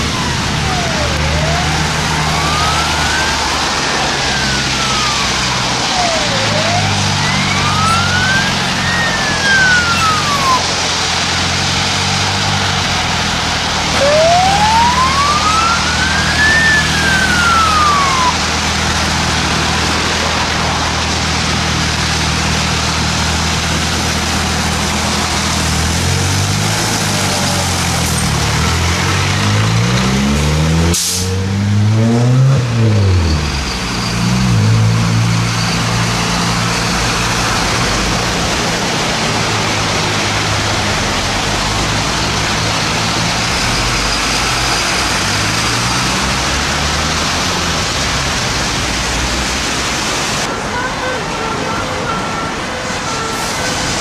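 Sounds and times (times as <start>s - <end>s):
fire engine siren wailing: 0.0s - 49.0s, 50.3s - 54.0s.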